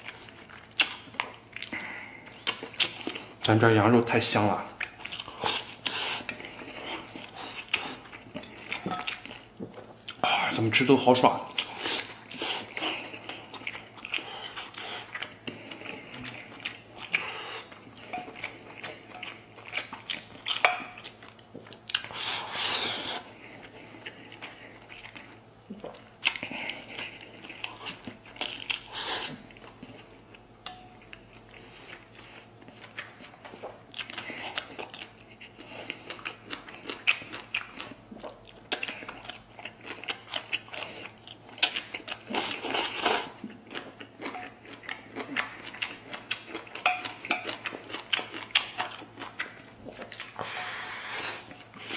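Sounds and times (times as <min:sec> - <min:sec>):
close-miked chewing and biting: 0:04.6 - 0:10.2, 0:11.4 - 0:30.4, 0:31.1 - 0:50.6.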